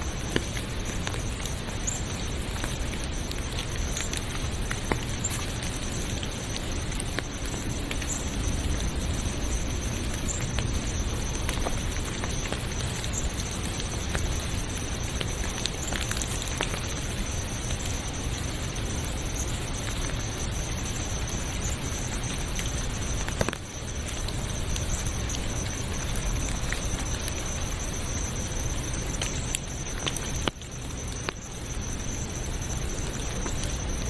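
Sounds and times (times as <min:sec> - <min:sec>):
high-pitched insect trill: 0:00.0 - 0:34.0
steady rain: 0:00.0 - 0:34.0.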